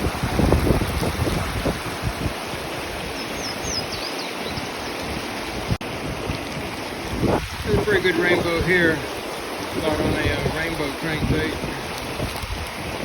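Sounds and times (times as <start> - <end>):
river rapids rushing: 0.0 - 13.0
wind buffeting microphone: 0.0 - 13.0.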